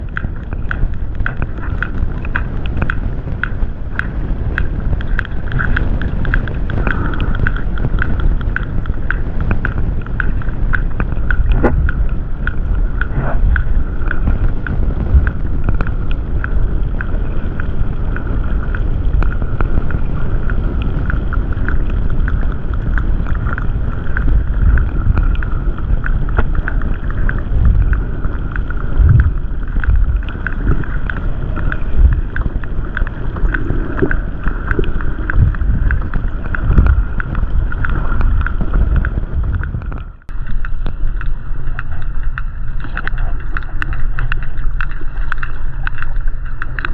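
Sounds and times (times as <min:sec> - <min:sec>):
sperm whales clicking: 0:00.0 - 0:46.9
underwater rush of water: 0:00.0 - 0:46.9.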